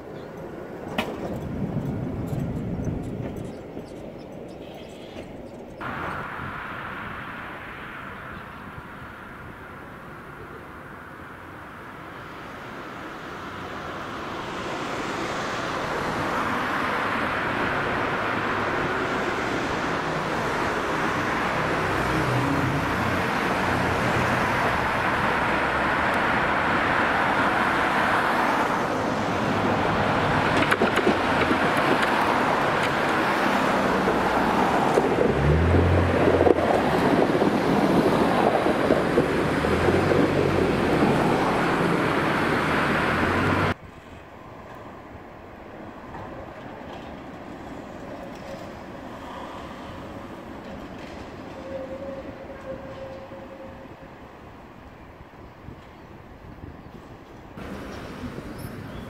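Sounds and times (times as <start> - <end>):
tram wheels rumbling on rails: 0.0 - 59.0.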